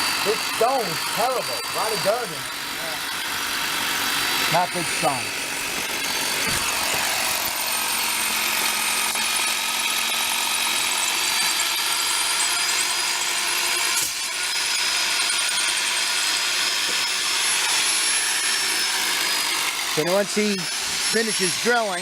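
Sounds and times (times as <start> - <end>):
power drill into concrete: 0.0 - 22.0.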